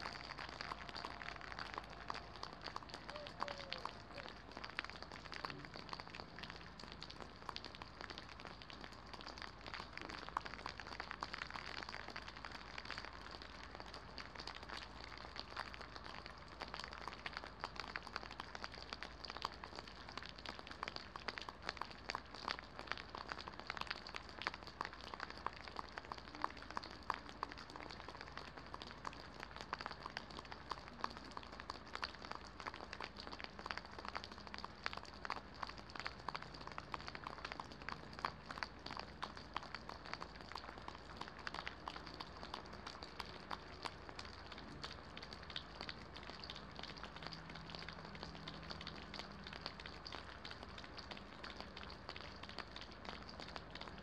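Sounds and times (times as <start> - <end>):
drops ticking on hard surface: 0.0 - 54.0
rain pattering: 0.0 - 54.0.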